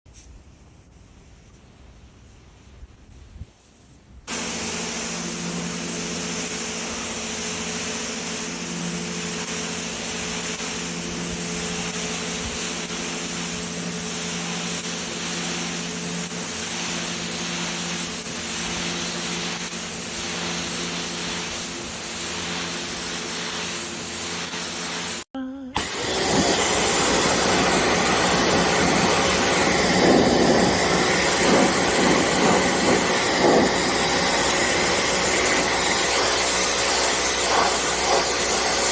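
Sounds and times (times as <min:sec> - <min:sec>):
pressure washer running: 0:04.3 - 0:38.9
water jet spraying: 0:04.3 - 0:38.9.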